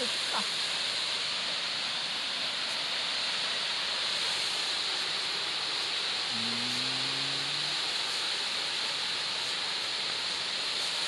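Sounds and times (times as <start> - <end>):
waterfall hiss: 0.0 - 11.0.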